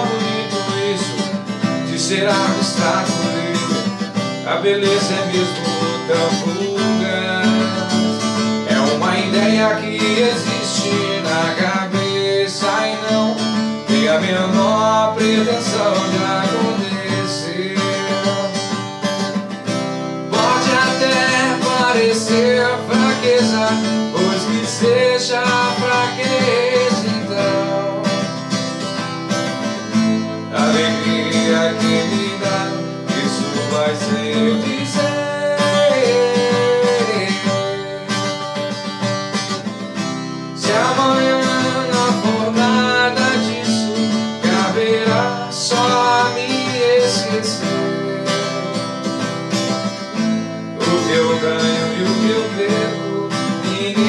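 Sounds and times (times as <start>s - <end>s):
acoustic guitar strummed and plucked: 0.0s - 54.0s.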